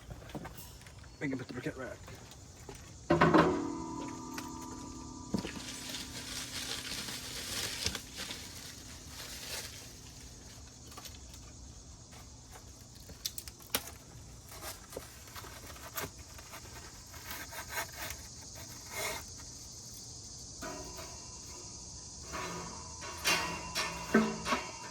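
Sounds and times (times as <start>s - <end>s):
clinks and scrapes of grill parts: 0.0s - 24.9s.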